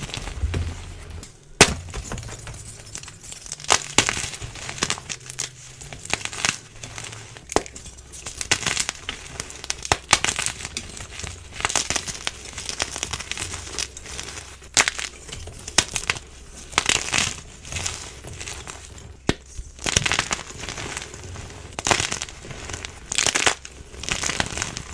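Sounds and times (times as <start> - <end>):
chalk crunching and crackling: 0.0 - 24.9.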